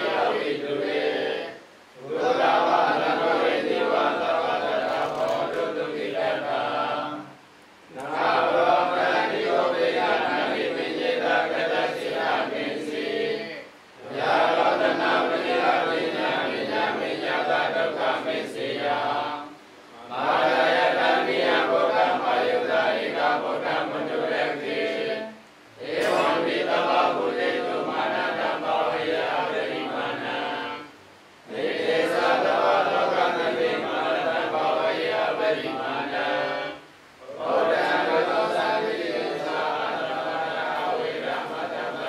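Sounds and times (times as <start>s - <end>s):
monks chanting in unison: 0.0s - 42.0s.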